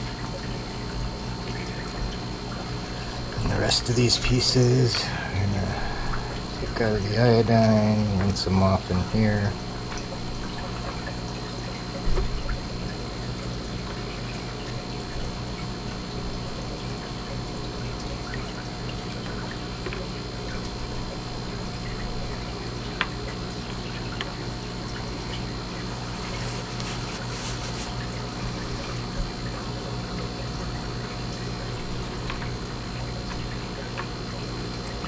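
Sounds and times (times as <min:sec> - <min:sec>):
steady hum: 0:00.0 - 0:35.0
water sloshing and trickling: 0:00.0 - 0:35.0.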